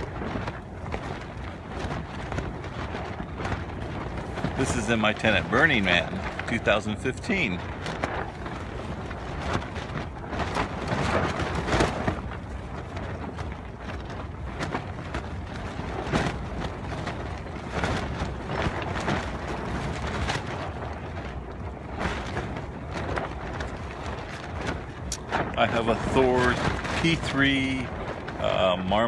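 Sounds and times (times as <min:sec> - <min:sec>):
dirt striking tent walls: 0:00.0 - 0:29.0
wind buffeting a tent: 0:00.0 - 0:29.0.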